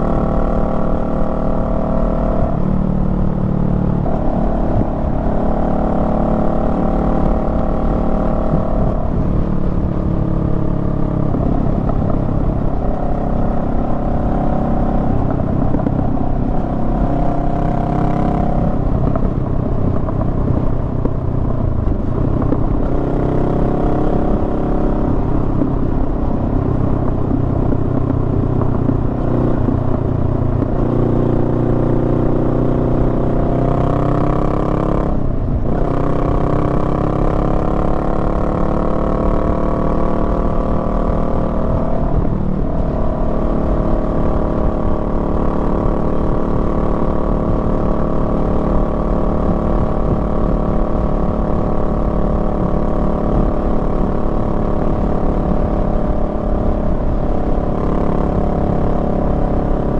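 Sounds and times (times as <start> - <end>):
wind rumble: 0.0 - 59.9.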